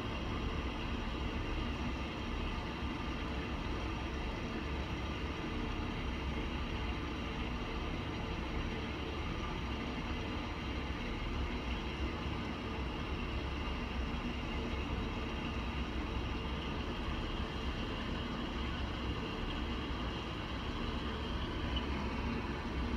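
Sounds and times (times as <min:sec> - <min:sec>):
faint hum and hiss: 0:00.0 - 0:22.9.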